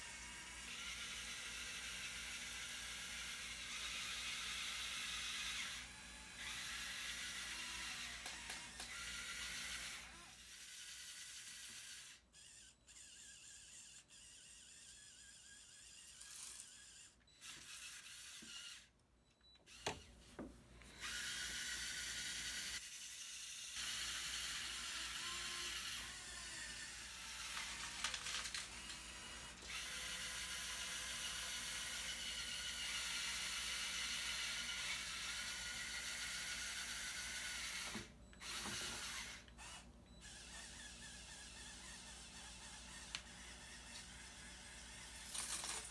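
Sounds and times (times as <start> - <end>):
small motors and gears whirring: 0.0 - 45.9.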